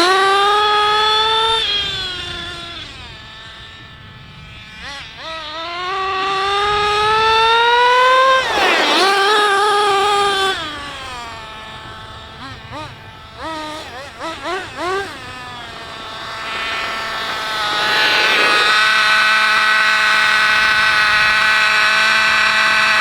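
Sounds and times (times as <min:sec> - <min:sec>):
rc car engine revving: 0:00.0 - 0:02.7, 0:05.8 - 0:11.7, 0:12.3 - 0:23.0.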